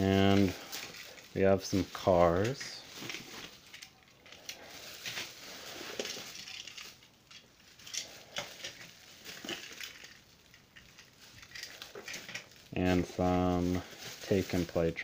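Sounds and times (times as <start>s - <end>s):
bubble wrap rustling and crinkling: 0.0s - 15.0s.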